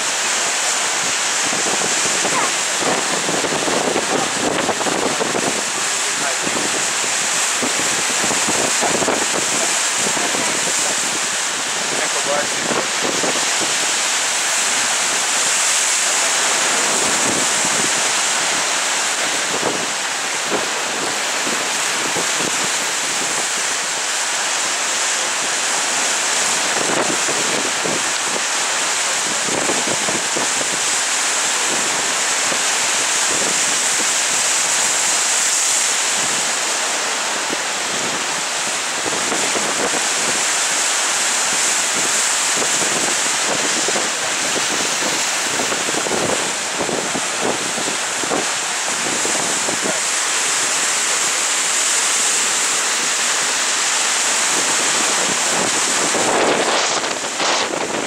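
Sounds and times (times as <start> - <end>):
surf breaking against rocks: 0.0 - 58.0
wind gusting on microphone: 0.0 - 58.0.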